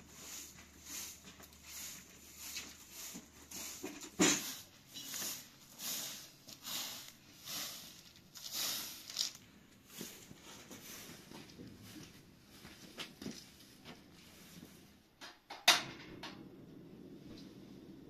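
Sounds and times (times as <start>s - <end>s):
broom sweeping concrete floor: 0.0s - 15.1s.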